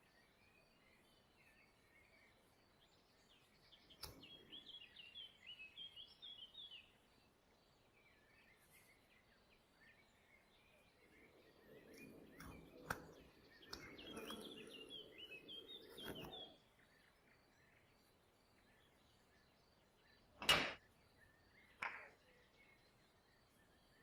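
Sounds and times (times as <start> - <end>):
faint bird chirping: 0.0 - 24.0.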